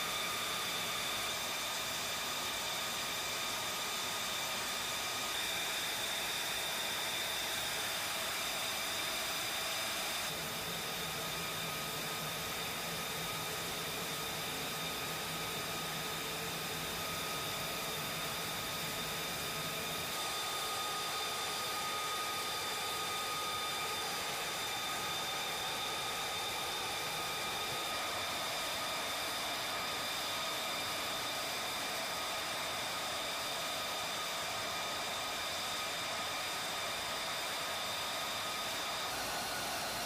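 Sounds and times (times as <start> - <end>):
turbine whine: 0.0 - 40.0.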